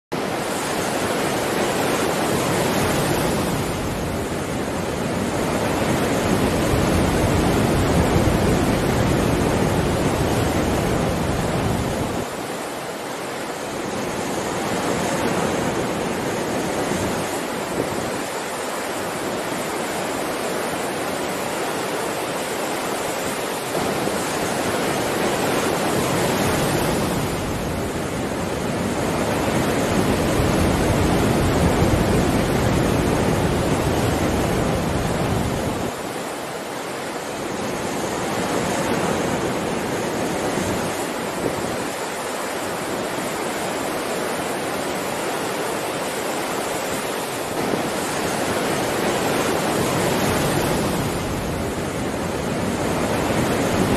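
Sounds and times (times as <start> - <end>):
sea surf on rocky shore: 0.1 - 53.9.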